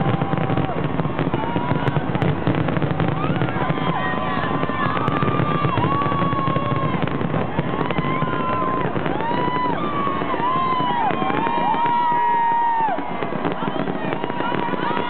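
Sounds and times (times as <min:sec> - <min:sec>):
fireworks bursting and crackling: 0:00.0 - 0:15.0
whistling fireworks: 0:00.0 - 0:15.0.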